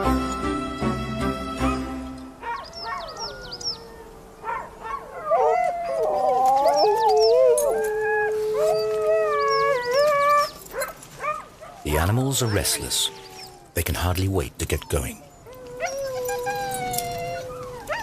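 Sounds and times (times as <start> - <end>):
dogs yipping: 1.6 - 13.8, 14.9 - 18.0
huskies howling: 2.4 - 13.8, 14.9 - 18.0.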